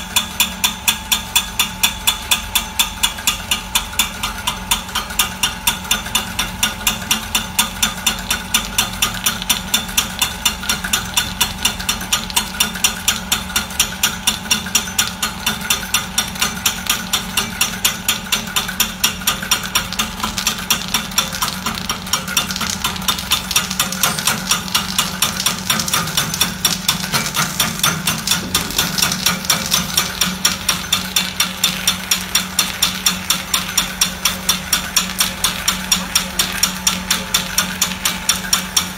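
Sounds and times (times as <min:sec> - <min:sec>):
motor hum: 0:03.1 - 0:38.9.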